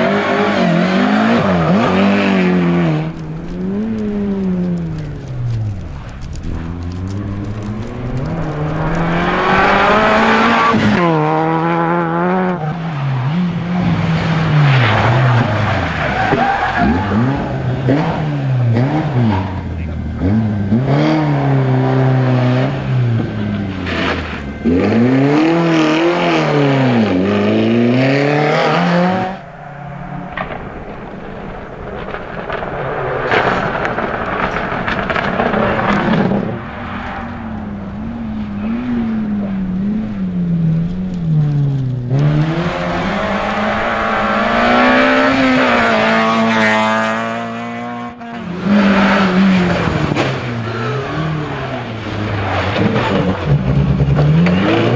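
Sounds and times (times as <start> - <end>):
rally car engines revving: 0.0 - 54.9
tyre noise: 0.0 - 54.9.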